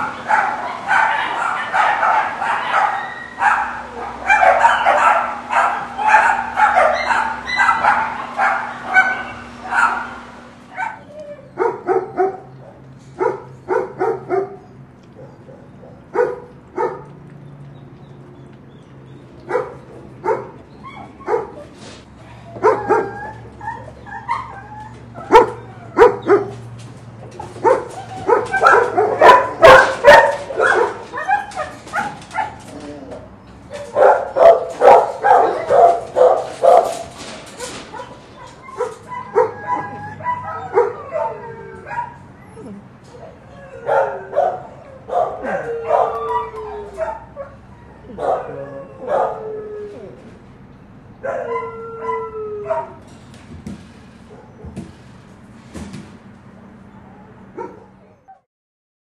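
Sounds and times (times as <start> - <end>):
dogs barking: 0.0 - 17.2, 19.4 - 50.2, 51.2 - 53.0, 54.2 - 55.0, 56.9 - 58.5.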